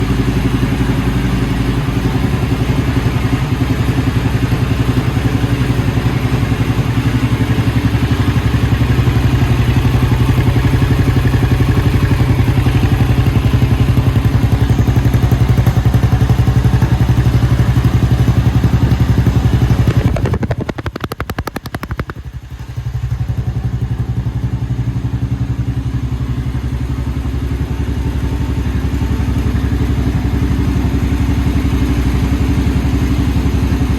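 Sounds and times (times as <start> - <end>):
motorcycle engine exhaust beat: 0.1 - 33.9.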